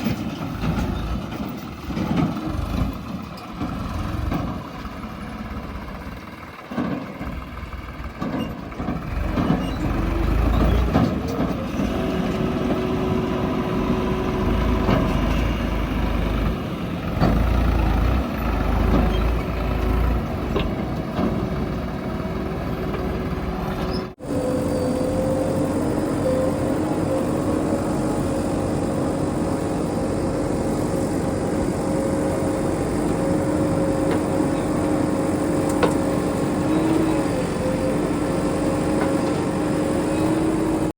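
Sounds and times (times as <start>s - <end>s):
heavy diesel engines rumbling: 0.0s - 40.9s.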